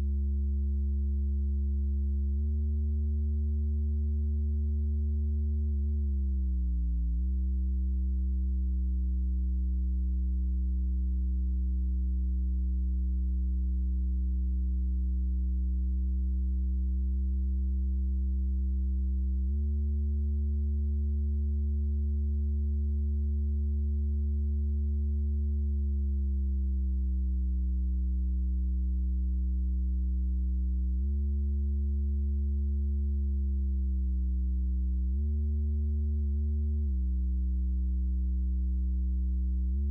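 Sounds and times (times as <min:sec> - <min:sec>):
low buzzy oscillator tone: 0:00.0 - 0:39.9.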